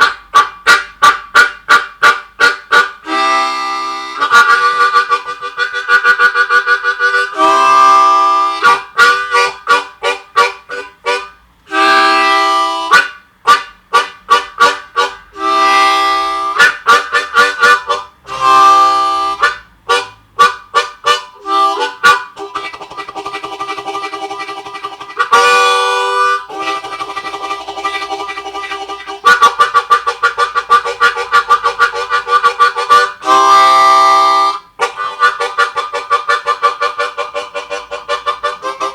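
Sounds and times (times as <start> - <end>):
harmonica chord pulses: 0.0 - 38.9
held harmonica chords: 0.0 - 38.9.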